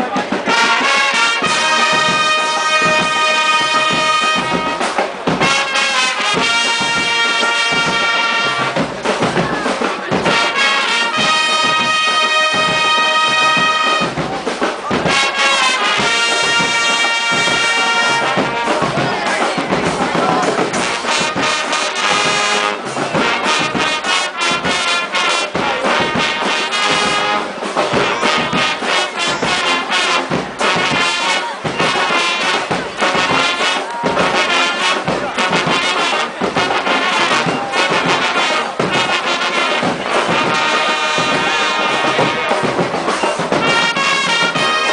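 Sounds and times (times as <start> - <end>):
brass band playing: 0.0 - 44.9
drums keeping a beat: 0.0 - 44.9.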